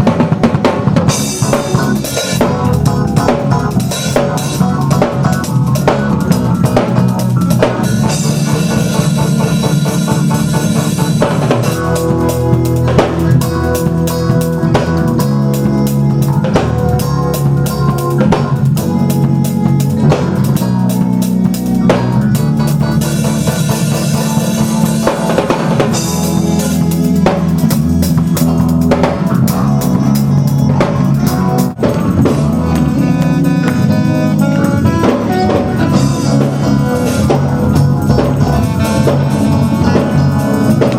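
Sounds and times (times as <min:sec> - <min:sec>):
drum kit beat: 0:00.0 - 0:40.9
keyboard or organ chords: 0:00.0 - 0:40.9
live gospel band playing: 0:00.0 - 0:40.9.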